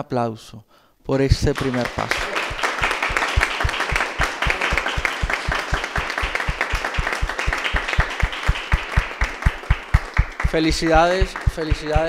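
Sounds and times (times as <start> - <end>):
close hands clapping steadily: 1.4 - 12.0
small group applauding: 1.4 - 12.0.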